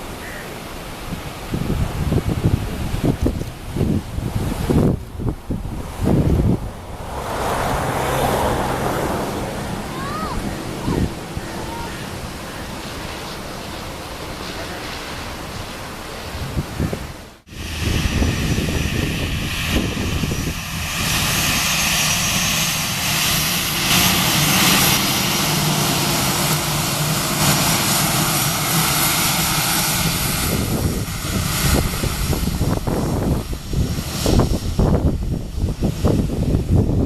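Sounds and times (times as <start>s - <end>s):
jet engines running: 0.0s - 37.0s
wind buffeting microphone: 1.0s - 37.0s.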